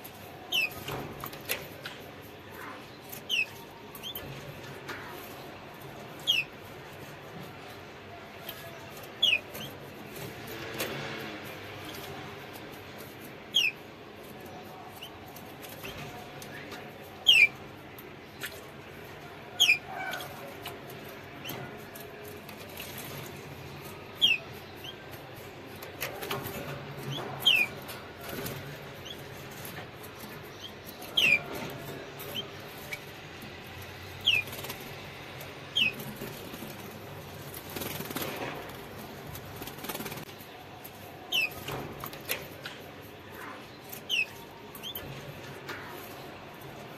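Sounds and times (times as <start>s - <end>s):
canary chirps: 0.0s - 46.9s.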